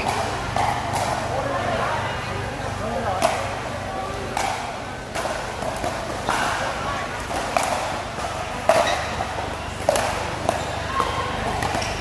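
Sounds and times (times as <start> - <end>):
murmur of large hall: 0.0 - 12.0.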